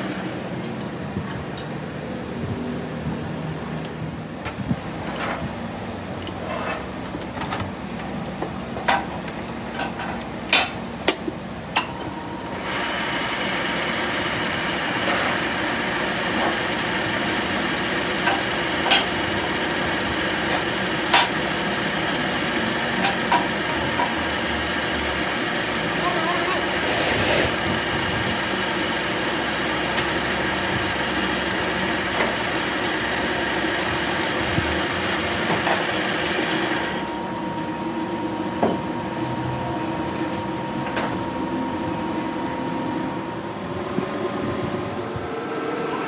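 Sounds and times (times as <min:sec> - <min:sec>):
machine running steadily: 0:02.4 - 0:46.0.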